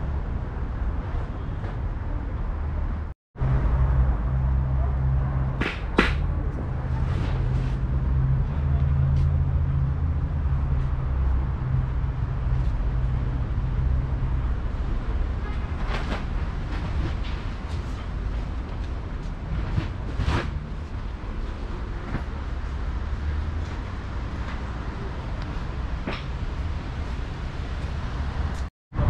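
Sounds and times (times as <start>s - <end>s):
low mechanical hum and rumble: 0.0s - 29.0s.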